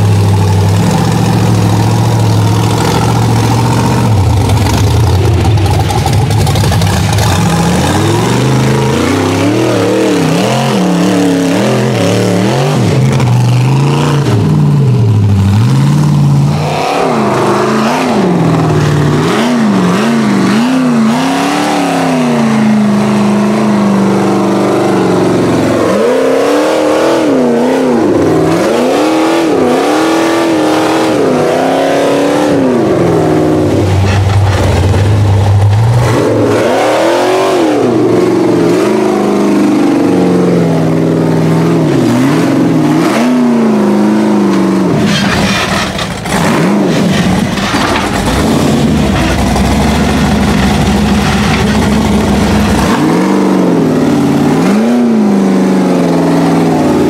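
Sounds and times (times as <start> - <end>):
buggy engine revving: 0.0 - 57.0.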